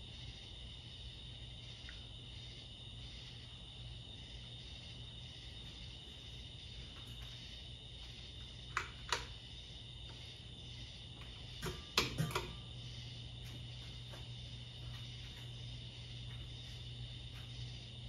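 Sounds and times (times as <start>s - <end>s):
ceiling fan motor humming: 0.0s - 18.0s.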